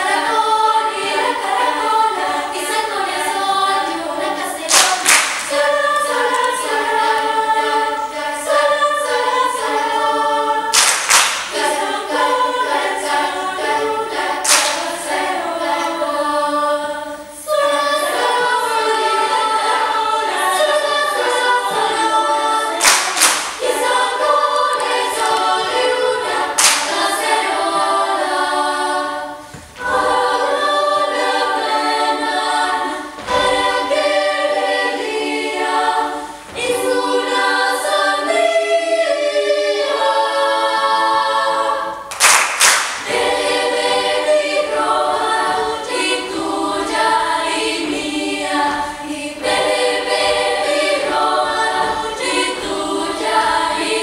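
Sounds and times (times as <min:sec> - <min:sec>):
youth choir singing a cappella: 0:00.0 - 0:54.0.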